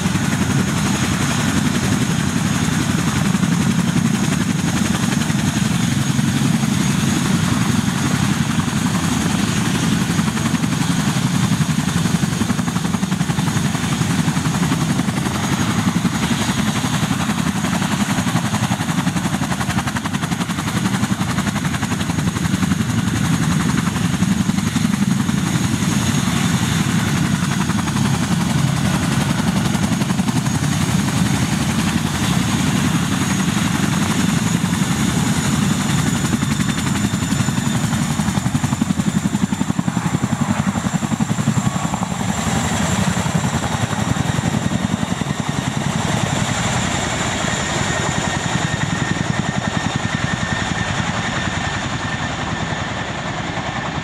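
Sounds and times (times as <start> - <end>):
helicopter rotor beat: 0.0 - 54.0.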